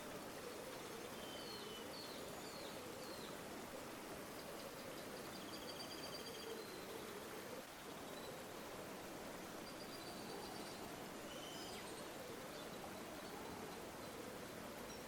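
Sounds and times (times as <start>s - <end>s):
songbird chirping: 0.0s - 3.4s, 4.3s - 8.7s, 9.6s - 15.0s
river water flowing: 0.0s - 15.0s.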